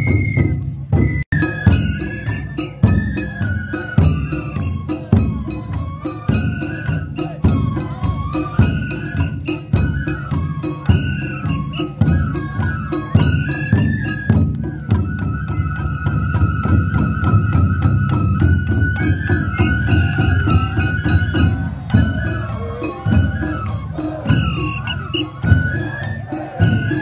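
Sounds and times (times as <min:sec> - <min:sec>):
bamboo flute melody: 0:00.0 - 0:27.0
quick percussion strikes: 0:00.0 - 0:27.0
taiko drum beat: 0:00.0 - 0:27.0.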